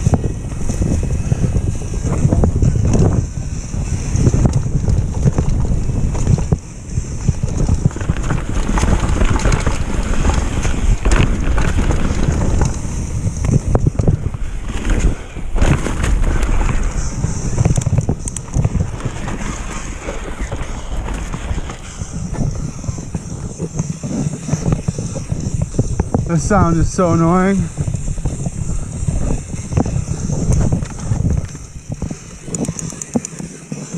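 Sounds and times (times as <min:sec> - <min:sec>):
bike rattling knocks: 0:00.0 - 0:33.4
tyres rumbling over trail: 0:00.0 - 0:33.9
wind buffeting microphone: 0:00.0 - 0:33.9.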